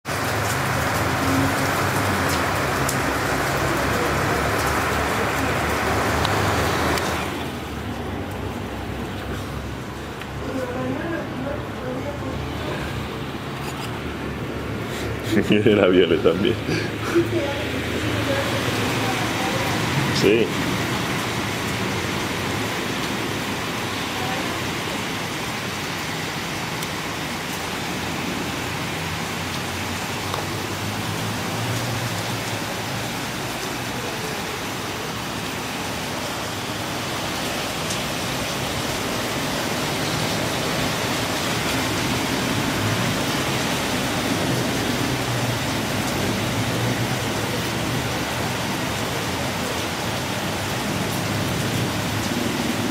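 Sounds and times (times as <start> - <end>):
rain and hail falling: 0.0 - 52.9.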